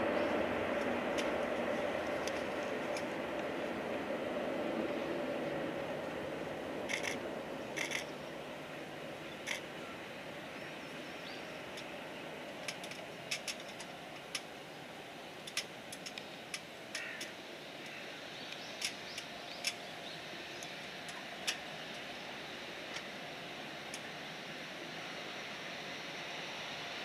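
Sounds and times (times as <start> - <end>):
jet engines humming: 0.0 - 27.0.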